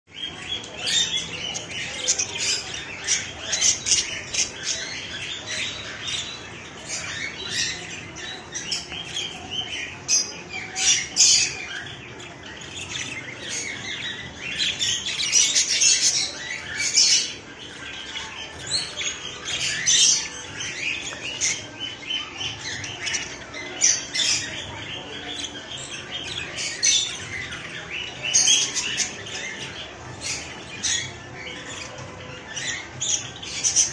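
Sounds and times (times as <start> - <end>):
budgies chirping and squawking: 0.1 - 33.9.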